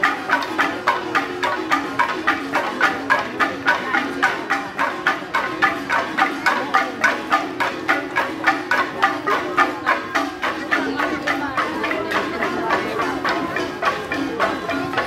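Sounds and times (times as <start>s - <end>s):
gongs struck in steady beat: 0.0s - 15.0s.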